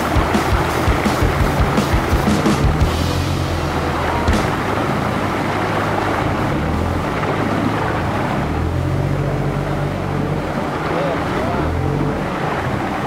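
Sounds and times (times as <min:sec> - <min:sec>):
off-road vehicle engine at low revs: 0:00.0 - 0:13.0
stream water rushing: 0:00.0 - 0:13.0.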